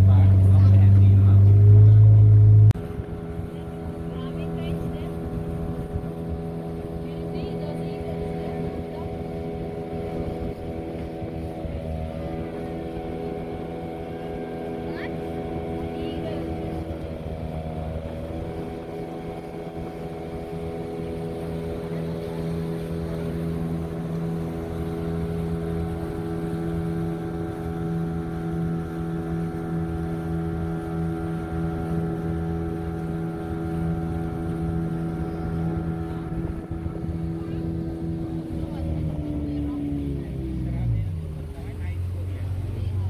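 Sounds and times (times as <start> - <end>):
motorboat engine running: 0.0 - 43.0.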